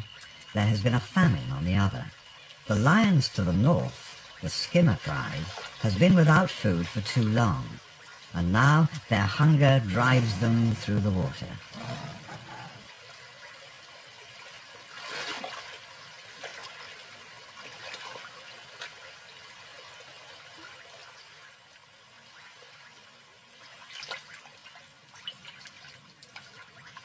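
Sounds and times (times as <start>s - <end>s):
water sloshing and splashing: 0.0s - 27.0s.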